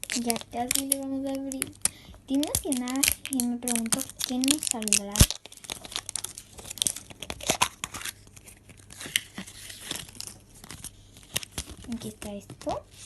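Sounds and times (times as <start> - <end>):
wrapping torn and crinkled: 0.0 - 13.0.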